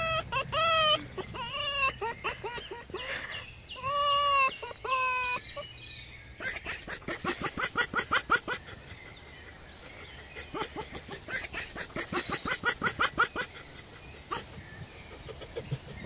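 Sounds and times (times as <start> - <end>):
fox chattering cackles: 0.0 - 5.8, 6.4 - 16.0
fox whining: 0.0 - 5.8, 6.4 - 16.0.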